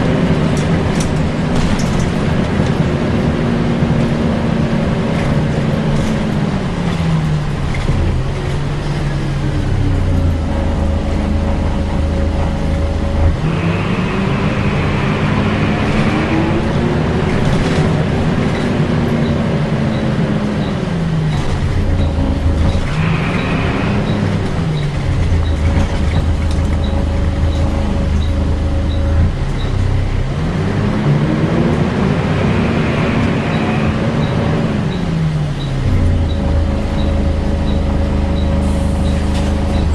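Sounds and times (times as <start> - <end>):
bus diesel engine accelerating: 0.0 - 39.9.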